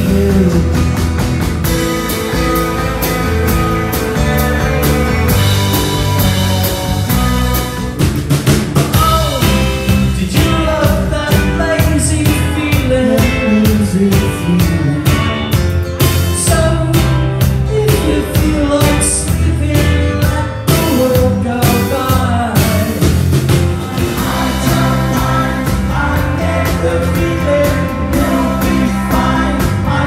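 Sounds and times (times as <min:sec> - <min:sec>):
drum kit hits: 0:00.0 - 0:19.2, 0:20.7 - 0:30.0
acoustic guitar: 0:00.0 - 0:30.0
electric guitar: 0:00.0 - 0:30.0.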